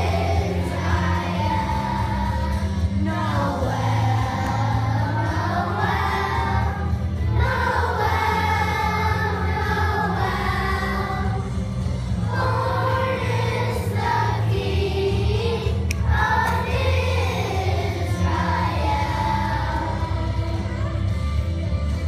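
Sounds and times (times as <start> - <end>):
children's choir singing: 0.0 - 21.1.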